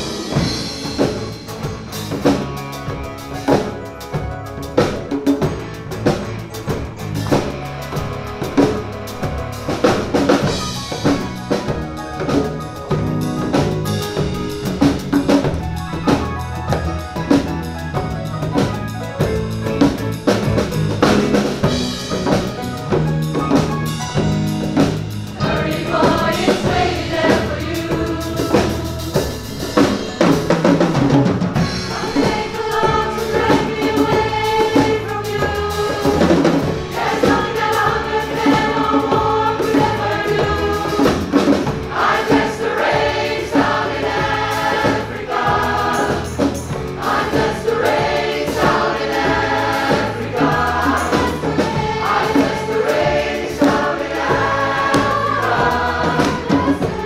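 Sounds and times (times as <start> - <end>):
bass drum and snare beat: 0.0 - 57.0
live band music: 0.0 - 57.0.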